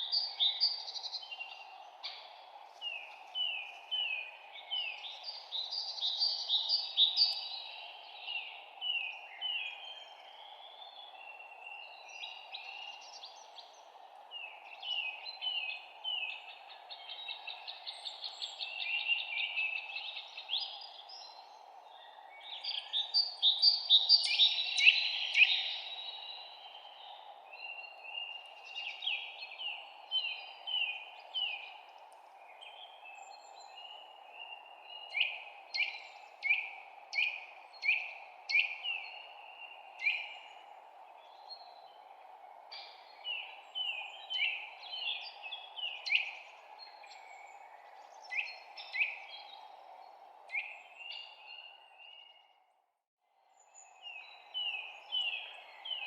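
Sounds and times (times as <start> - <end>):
songbirds chirping: 0.0 - 52.8, 53.4 - 56.0.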